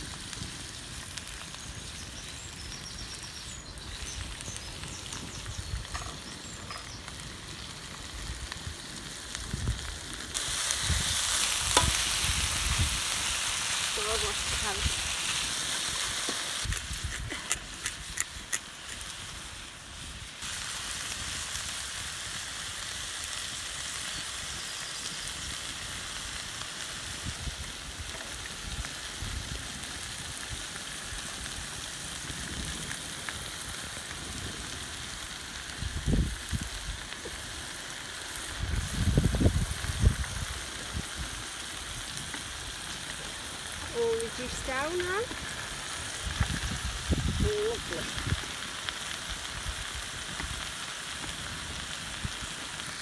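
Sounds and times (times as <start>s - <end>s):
vegetables sizzling in a pan: 0.0s - 53.0s.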